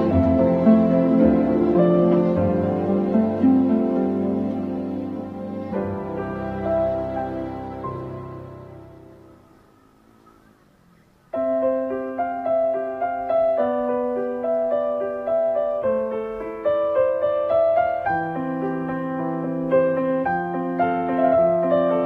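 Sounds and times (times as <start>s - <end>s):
piano music: 0.0s - 10.6s, 11.3s - 22.0s.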